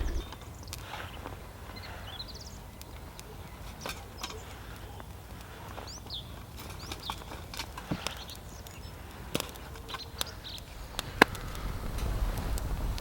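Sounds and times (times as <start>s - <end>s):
small birds chirping: 0.0s - 11.9s
wood fire crackling and popping: 0.0s - 13.0s.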